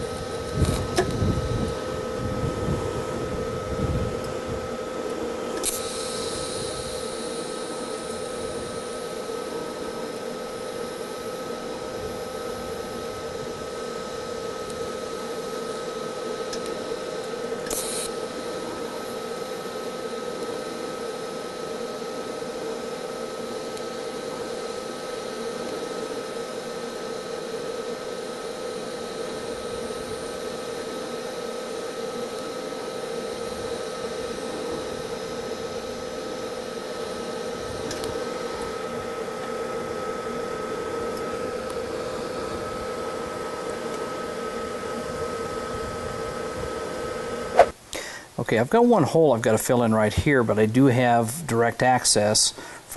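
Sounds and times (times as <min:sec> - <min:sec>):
welding arc hum and hiss: 0:00.0 - 0:52.9.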